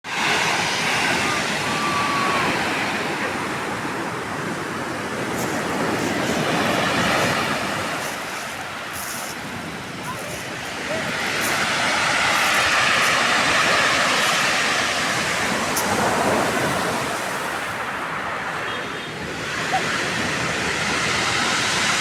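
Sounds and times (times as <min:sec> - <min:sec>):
ocean surf breaking on beach: 0:00.1 - 0:22.0.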